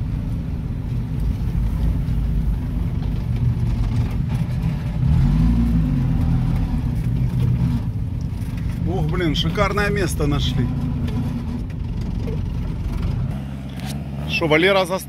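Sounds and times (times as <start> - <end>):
vehicle engine running at low speed: 0.0 - 15.0.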